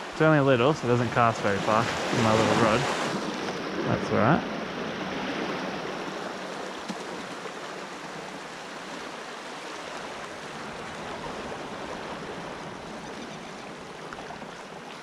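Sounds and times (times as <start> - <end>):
small waves lapping on rocks: 0.0 - 4.3, 5.8 - 15.0.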